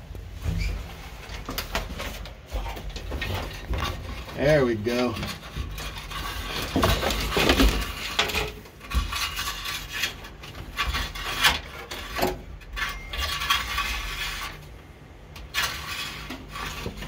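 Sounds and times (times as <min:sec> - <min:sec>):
wires rubbing and scraping metal: 0:00.0 - 0:17.0.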